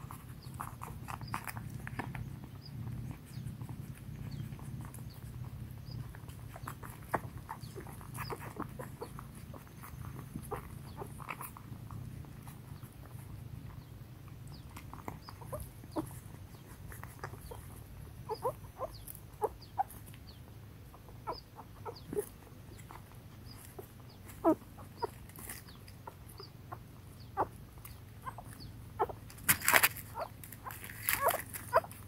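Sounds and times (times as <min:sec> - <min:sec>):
puppies squeaking and whimpering: 0:00.0 - 0:13.9, 0:14.5 - 0:32.0.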